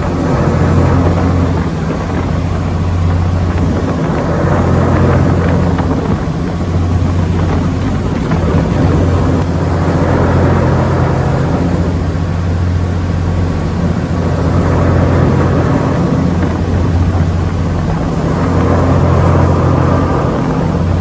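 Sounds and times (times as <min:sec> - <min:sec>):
ferry diesel engine humming: 0:00.0 - 0:21.0.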